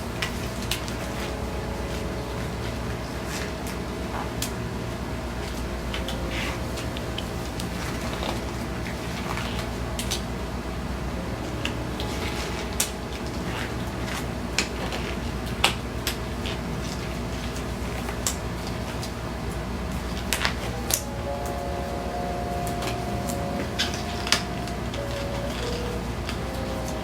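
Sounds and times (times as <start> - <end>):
low hum: 0.0 - 15.3, 19.4 - 27.0.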